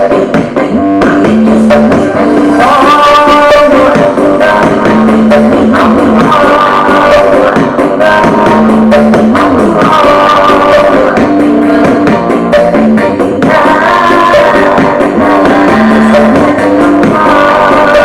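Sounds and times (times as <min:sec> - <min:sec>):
music with singing: 0:00.0 - 0:18.0.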